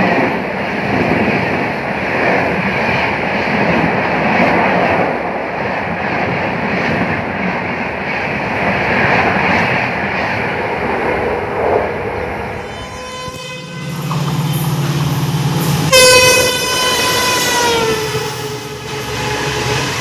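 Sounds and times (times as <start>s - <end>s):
train rushing past: 0.0s - 20.0s.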